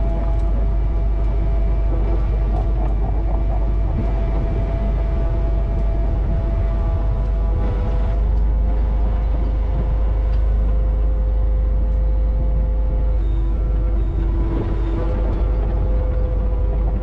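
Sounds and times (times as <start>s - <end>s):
diesel engine rumble: 0.0s - 17.0s
high whine: 0.0s - 17.0s
lower whine: 0.0s - 17.0s.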